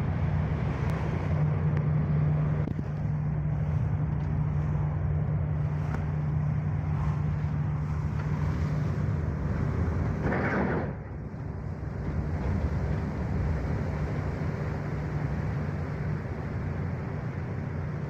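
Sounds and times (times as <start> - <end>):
ship engines droning: 0.0 - 18.0.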